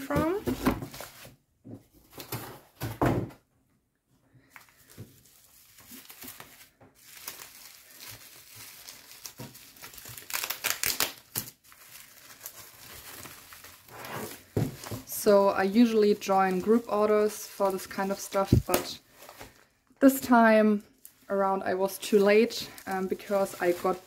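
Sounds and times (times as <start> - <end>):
bubble wrap rustling and crinkling: 0.0 - 1.4, 4.4 - 24.0.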